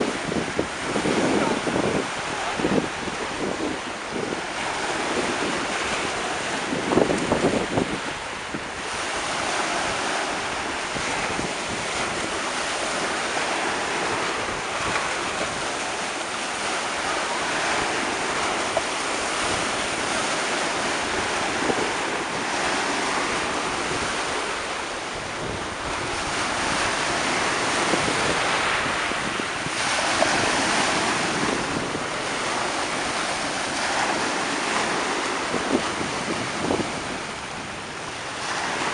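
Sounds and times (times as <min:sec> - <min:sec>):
surf washing onto beach: 0:00.0 - 0:38.9
wind buffeting microphone: 0:00.0 - 0:38.9.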